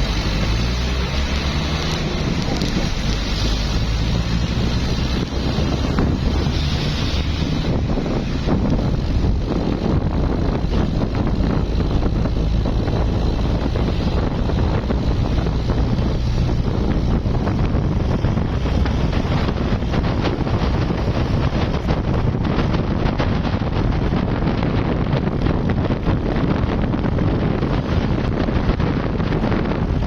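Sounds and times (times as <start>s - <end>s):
car road noise: 0.0s - 30.0s
wind buffeting microphone: 0.0s - 30.0s.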